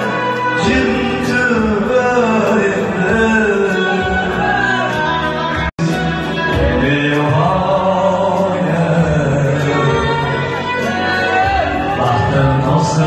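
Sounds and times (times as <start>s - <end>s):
man singing into microphone: 0.0s - 13.0s
musical accompaniment: 0.0s - 13.0s.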